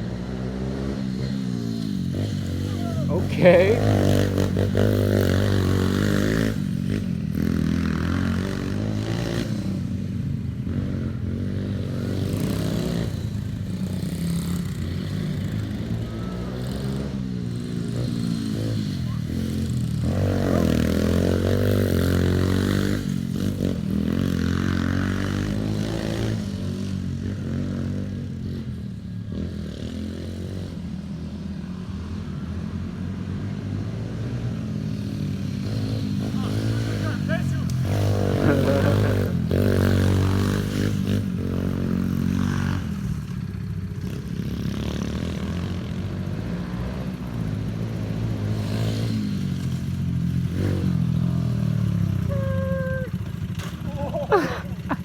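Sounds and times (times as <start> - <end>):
pit bike engine revving: 0.0 - 28.7, 35.2 - 55.0.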